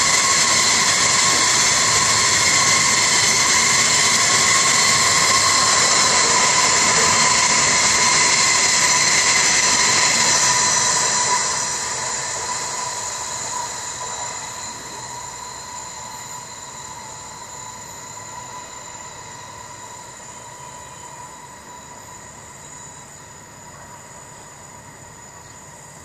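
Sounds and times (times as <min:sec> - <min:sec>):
high-pitched ringing: 0:00.0 - 0:24.2
freight train wheel and rail noise: 0:00.0 - 0:26.0.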